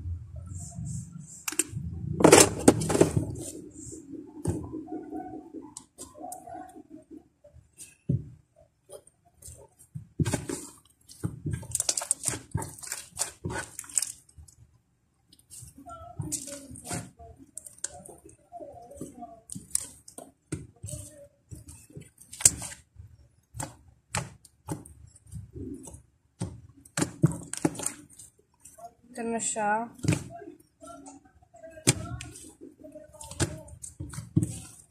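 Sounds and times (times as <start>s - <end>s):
slime squishing by hand: 0.4s - 34.9s.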